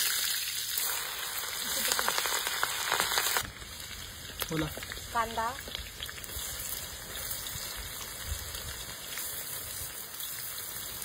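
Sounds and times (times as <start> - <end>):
oil sizzling in wok: 0.0 - 11.0.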